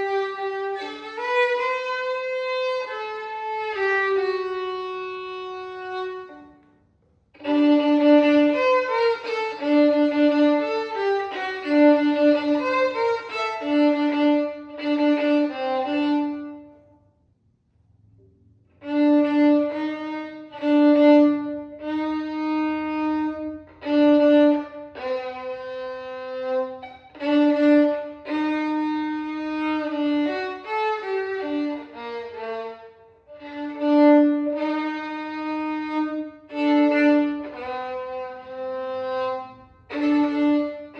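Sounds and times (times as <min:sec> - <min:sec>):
violin melody: 0:00.0 - 0:17.0, 0:18.8 - 0:40.9.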